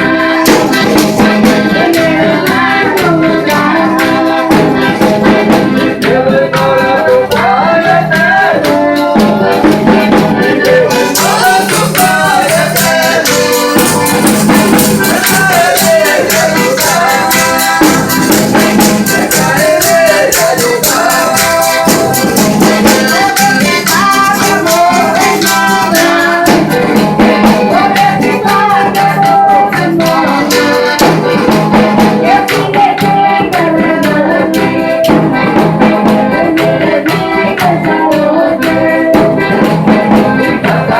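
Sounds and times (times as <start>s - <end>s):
fast shaken percussion: 0.0s - 40.9s
voices singing folk melody: 0.0s - 40.9s.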